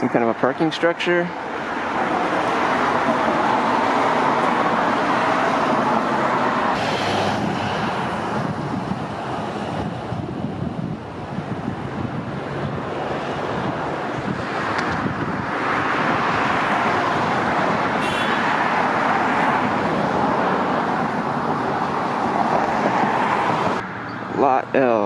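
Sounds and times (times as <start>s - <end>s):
road and traffic noise: 0.0s - 25.0s.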